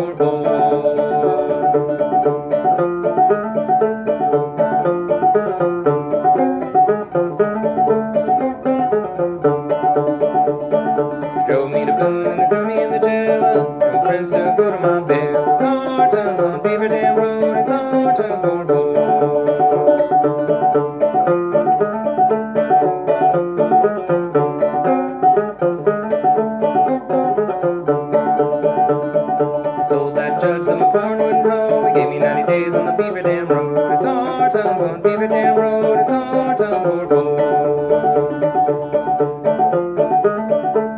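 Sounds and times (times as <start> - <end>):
banjo played clawhammer style: 0.0 - 40.9.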